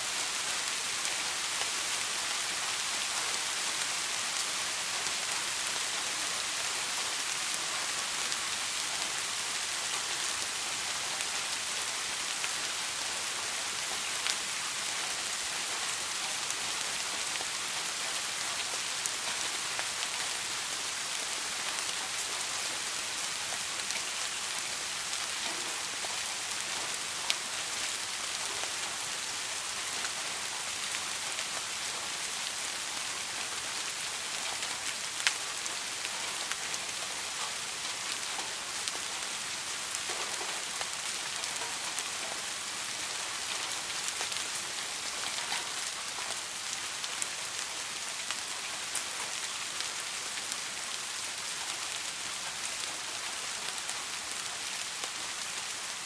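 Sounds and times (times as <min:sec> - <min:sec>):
soft rain hissing: 0:00.0 - 0:56.0.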